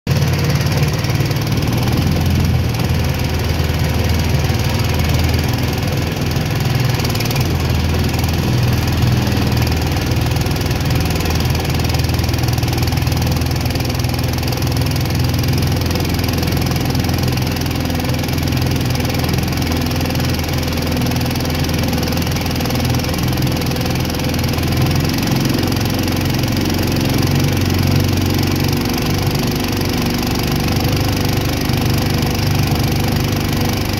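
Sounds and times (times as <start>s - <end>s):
boat motor running: 0.1s - 33.9s.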